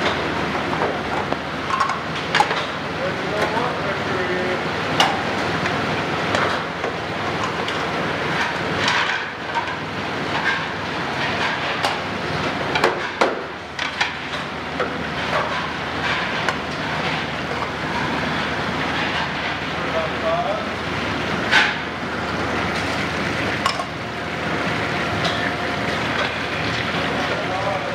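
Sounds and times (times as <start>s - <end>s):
conveyor and machinery running: 0.0s - 27.9s.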